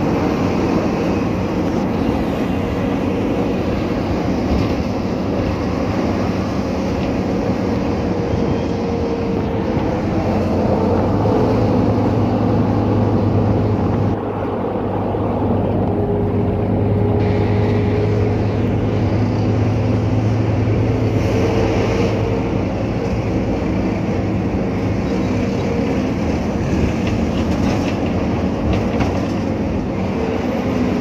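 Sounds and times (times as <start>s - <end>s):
bus engine running: 0.0s - 31.0s
road and body rattle: 0.0s - 31.0s.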